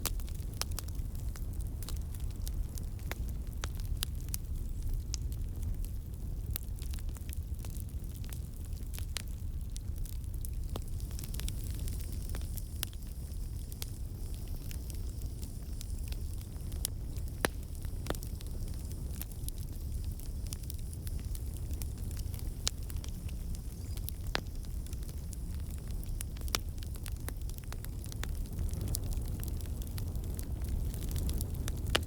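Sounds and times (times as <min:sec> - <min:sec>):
burning wood crackling and popping: 0:00.0 - 0:32.0
campfire rumble: 0:00.0 - 0:32.0.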